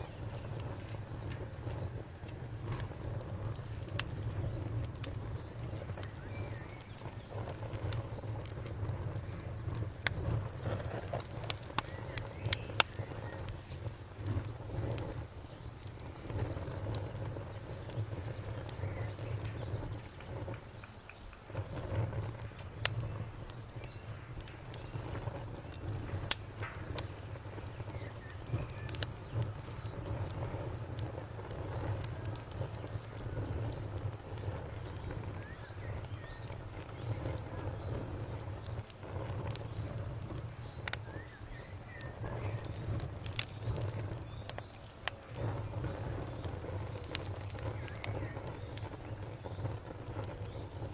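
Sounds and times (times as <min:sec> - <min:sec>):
cricket chirping: 0:00.0 - 0:50.9
wood fire crackling: 0:00.0 - 0:50.9.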